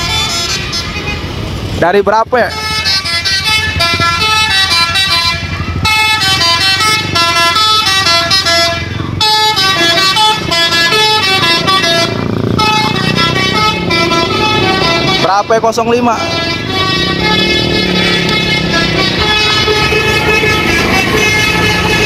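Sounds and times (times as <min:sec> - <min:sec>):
musical bus horn melody: 0:00.0 - 0:01.4, 0:02.4 - 0:22.0
low engine rumble: 0:02.5 - 0:22.0.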